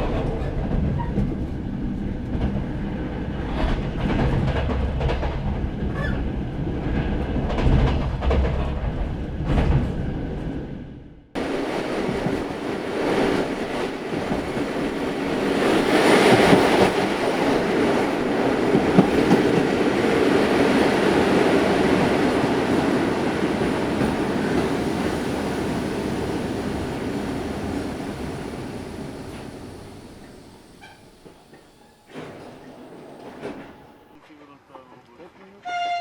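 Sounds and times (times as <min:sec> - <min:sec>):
train rumbling by: 0:00.0 - 0:36.0.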